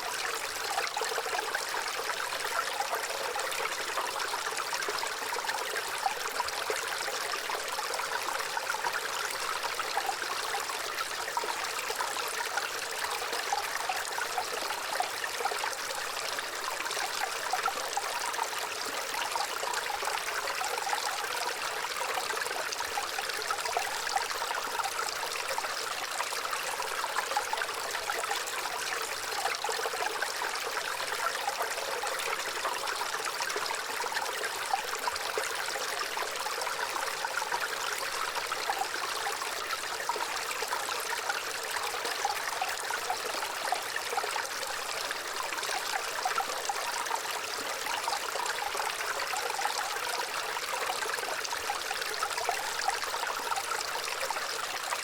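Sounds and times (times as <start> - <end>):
small stream trickling and babbling: 0.0 - 55.0.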